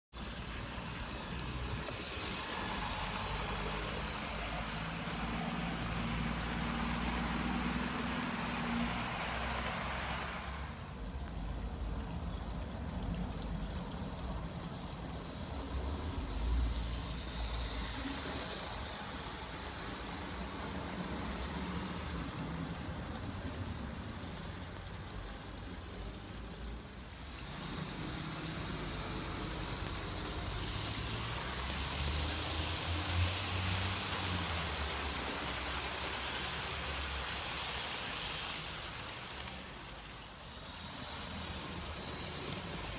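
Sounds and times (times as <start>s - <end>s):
model train rumbling on rails: 0.2s - 42.9s.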